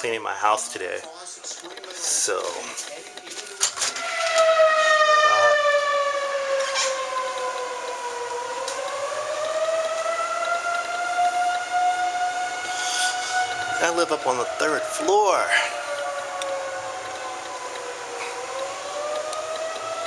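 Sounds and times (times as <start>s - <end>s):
civil defence siren wailing: 0.0s - 20.0s.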